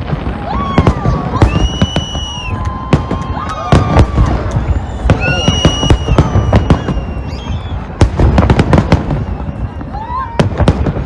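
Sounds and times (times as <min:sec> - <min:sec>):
fireworks bangs and crackles: 0:00.0 - 0:11.0
whistling firework shells: 0:00.8 - 0:10.9.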